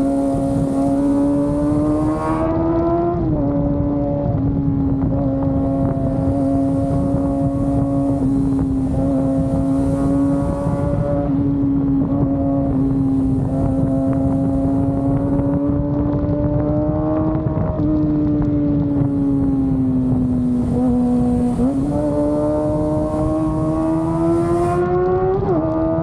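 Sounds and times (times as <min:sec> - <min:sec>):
motorcycle engine at high revs: 0:00.0 - 0:26.0
wind and road rush: 0:00.0 - 0:26.0.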